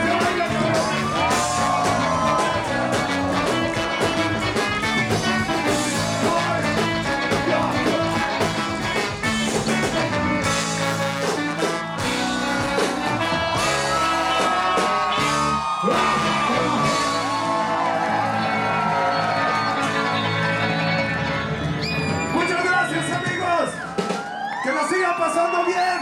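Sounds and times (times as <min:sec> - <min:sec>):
live rock band with singing: 0:00.0 - 0:22.4.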